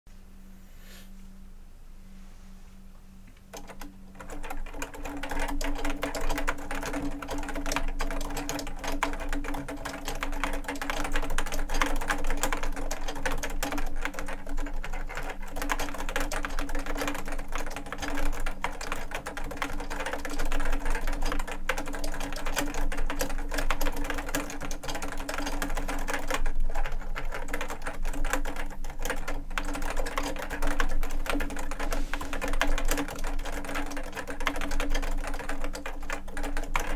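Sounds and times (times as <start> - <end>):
soft keyboard typing: 3.4 - 36.9.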